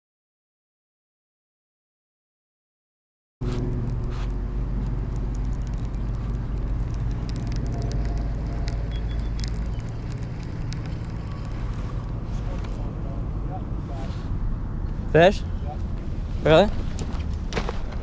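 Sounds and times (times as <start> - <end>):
low engine drone: 3.4 - 18.0.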